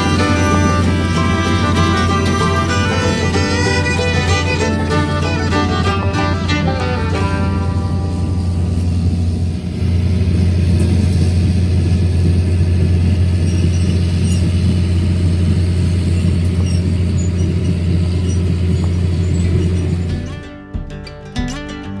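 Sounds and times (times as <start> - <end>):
engine deep drone: 0.0 - 19.9.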